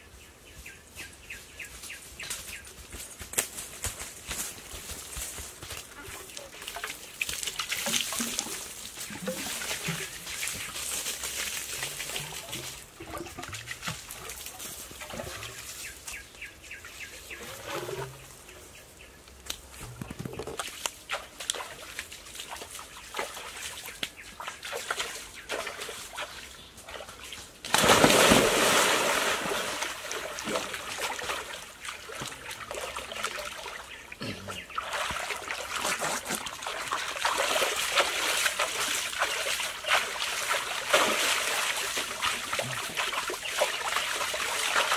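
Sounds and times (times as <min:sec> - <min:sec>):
water splashing and sloshing: 0:03.8 - 0:44.9.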